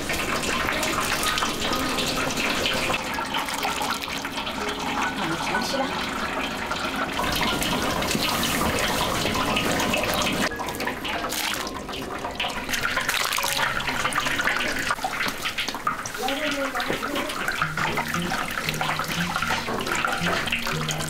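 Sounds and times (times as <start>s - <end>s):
liquid splashing and draining: 0.0s - 21.0s.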